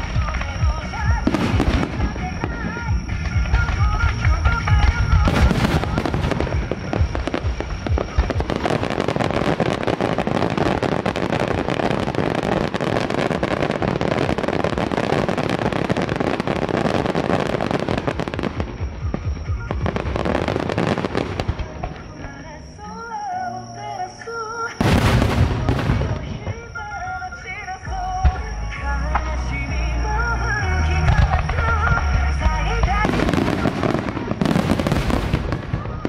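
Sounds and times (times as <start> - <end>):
firework shells booming: 0.0 - 22.5, 24.8 - 27.1, 30.9 - 36.0
fireworks crackling: 0.0 - 36.0.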